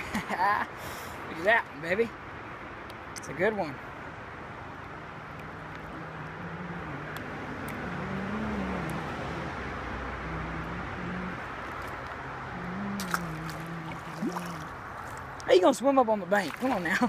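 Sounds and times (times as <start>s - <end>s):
traffic rumble on bridge: 0.0s - 17.0s.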